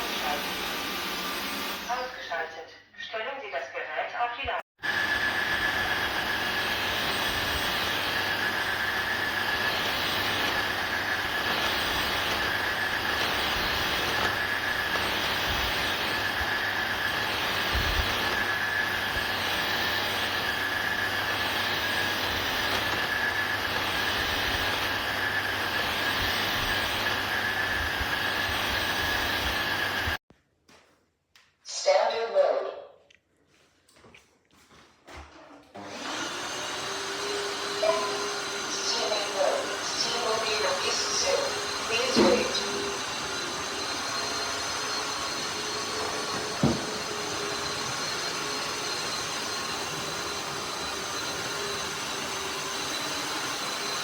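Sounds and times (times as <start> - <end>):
floor washer whining: 0.0 - 2.4, 4.8 - 30.2, 35.2 - 54.0
motor and suction rushing: 4.8 - 30.2, 35.8 - 54.0.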